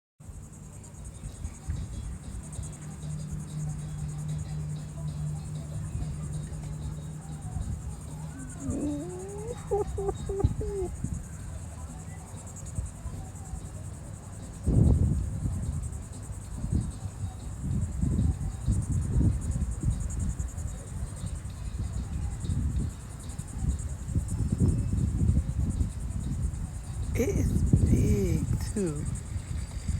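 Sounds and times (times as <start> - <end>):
crickets chirping: 0.2 - 29.9.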